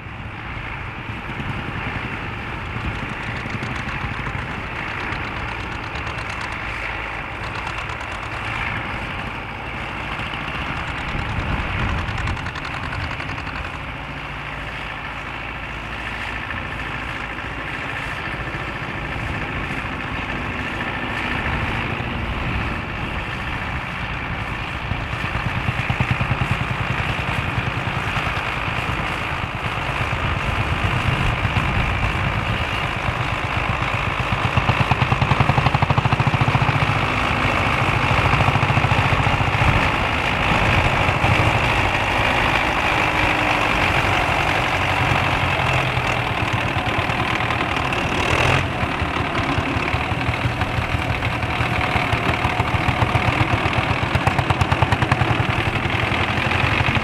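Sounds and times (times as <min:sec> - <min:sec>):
tractor engines running: 0:00.0 - 0:57.0.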